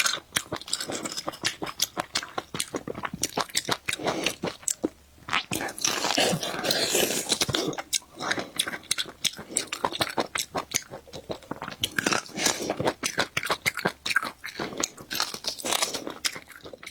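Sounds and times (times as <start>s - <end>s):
person biting and chewing: 0.0s - 16.9s.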